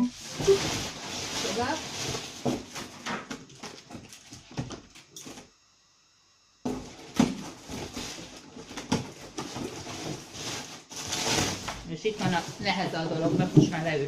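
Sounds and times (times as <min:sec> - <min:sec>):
packaging knocks and rustles: 0:00.2 - 0:05.5, 0:06.7 - 0:14.0.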